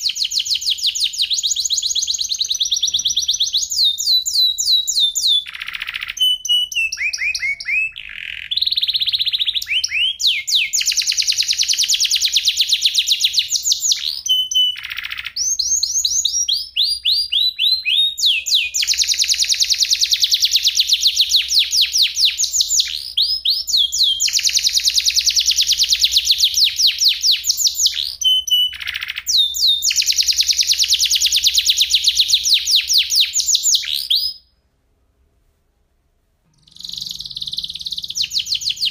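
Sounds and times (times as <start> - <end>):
canary singing trills: 0.0 - 34.5, 36.5 - 38.9.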